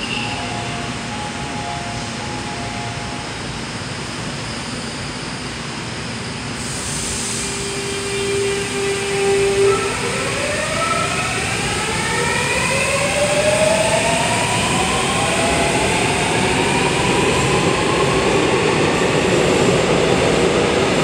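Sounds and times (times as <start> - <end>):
subway train equipment running: 0.0 - 21.0.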